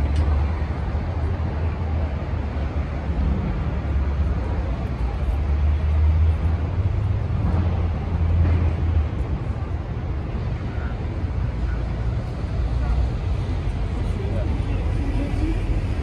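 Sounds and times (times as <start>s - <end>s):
city noise: 0.0s - 16.0s
low engine rumble: 0.0s - 16.0s.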